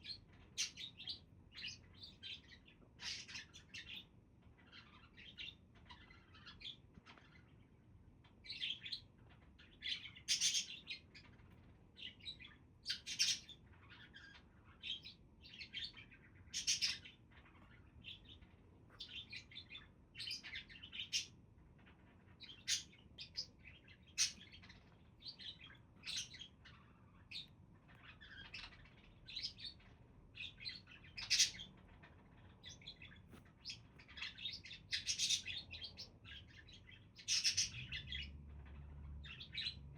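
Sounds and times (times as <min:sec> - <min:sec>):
budgerigars chirping: 0:00.0 - 0:07.6, 0:08.4 - 0:11.3, 0:12.0 - 0:39.9.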